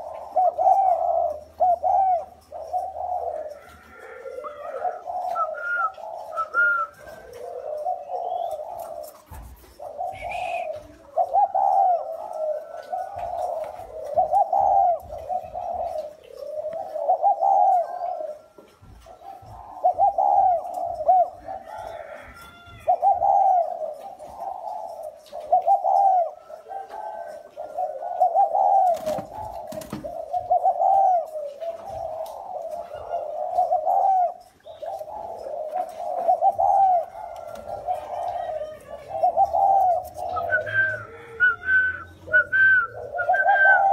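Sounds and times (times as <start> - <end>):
doves cooing: 0.0 - 43.9.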